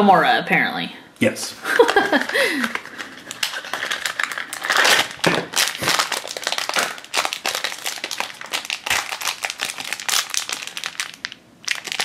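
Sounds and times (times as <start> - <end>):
foil wrapper crinkling: 1.6 - 12.0.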